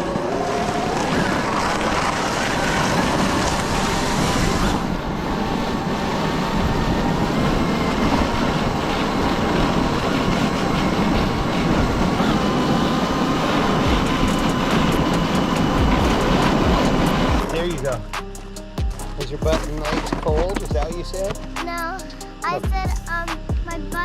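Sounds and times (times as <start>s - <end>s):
tyres and sled runners on snow: 0.0s - 18.0s, 18.8s - 21.5s.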